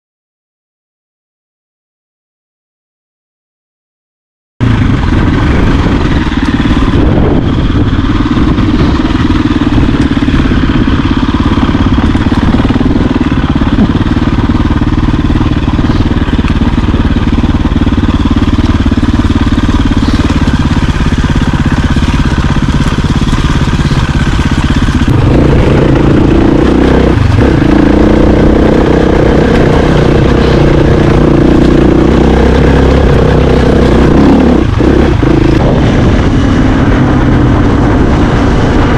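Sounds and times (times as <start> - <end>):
dirt bike engine running: 4.6 - 38.9.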